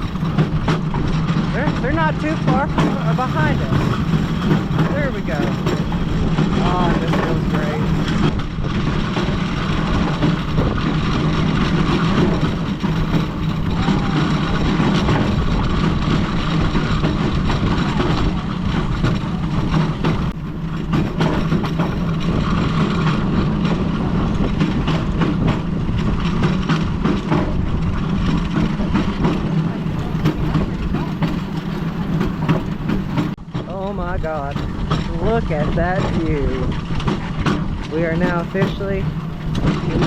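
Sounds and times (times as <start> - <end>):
steel wheels rolling on rail track: 0.0 - 40.0.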